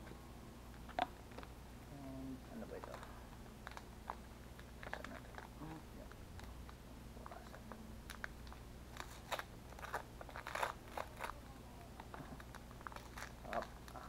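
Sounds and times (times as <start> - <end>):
wrapping paper crinkling and tearing: 2.7 - 14.0.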